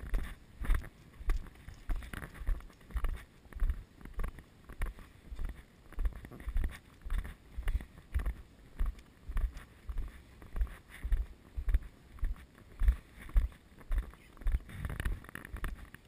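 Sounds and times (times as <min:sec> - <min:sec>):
footsteps on dry grass: 0:00.0 - 0:16.0.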